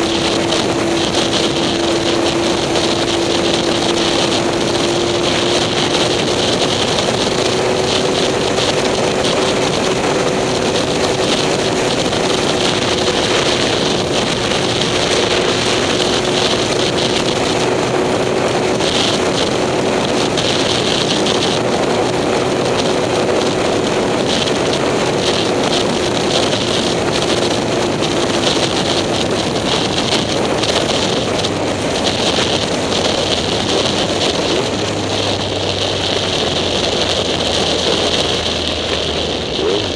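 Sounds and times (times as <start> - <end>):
car engine running: 0.0 - 39.9
wind noise on microphone: 0.0 - 39.9.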